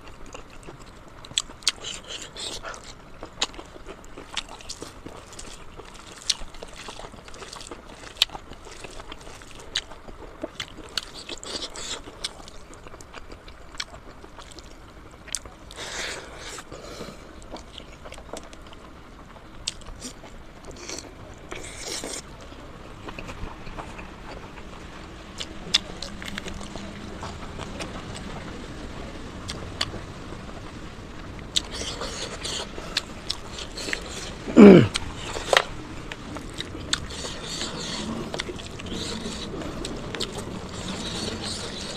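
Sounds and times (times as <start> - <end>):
biting and chewing: 0.0 - 24.7, 25.4 - 28.2, 31.5 - 41.9.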